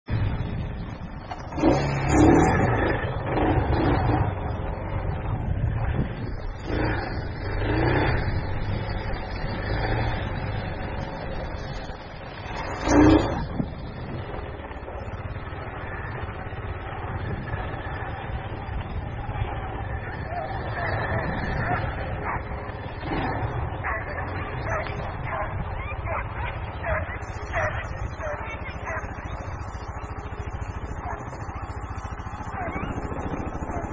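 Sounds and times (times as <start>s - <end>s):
motorbike engine revving: 0.1s - 33.9s.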